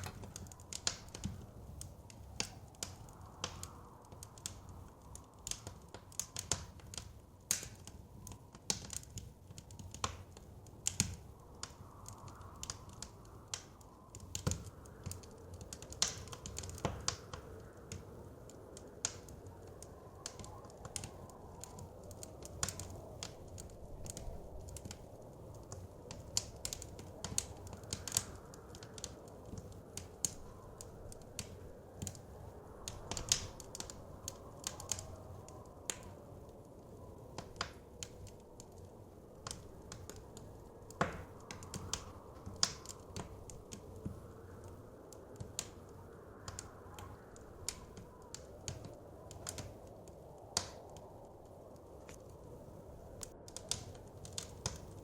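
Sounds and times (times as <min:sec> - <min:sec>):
blizzard wind rushing: 0:00.0 - 0:55.0
wood fire crackling and popping: 0:00.0 - 0:55.0.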